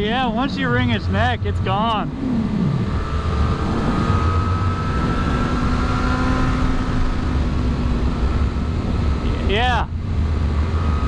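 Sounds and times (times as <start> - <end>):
motorcycle engine cruising: 0.0 - 11.0
wind rumble: 0.0 - 11.0.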